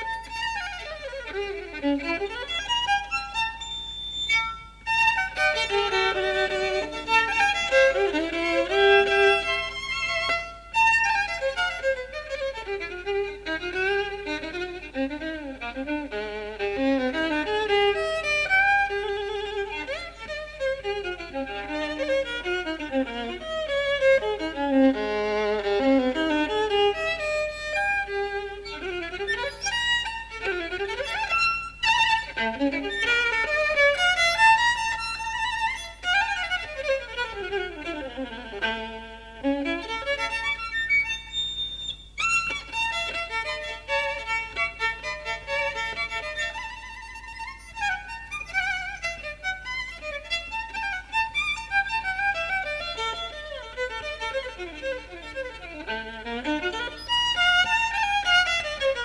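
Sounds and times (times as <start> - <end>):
jazz violin fast runs: 0.0 - 59.0
low tape hum: 0.0 - 59.0.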